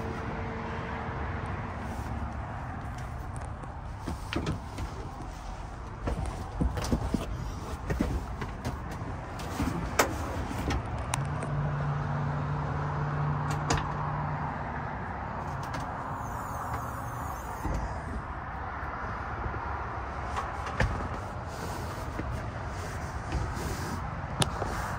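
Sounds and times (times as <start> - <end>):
low engine hum: 0.0 - 24.9
road traffic noise: 0.0 - 24.9.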